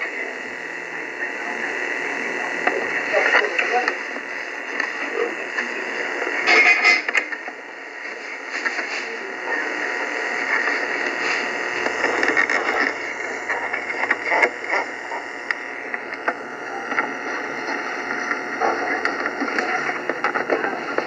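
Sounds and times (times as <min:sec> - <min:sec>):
cassette player playback: 0:00.0 - 0:21.0.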